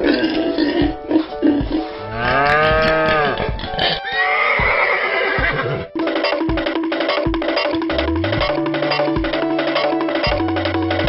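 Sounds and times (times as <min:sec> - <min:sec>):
cartoon background music: 0:00.0 - 0:11.0.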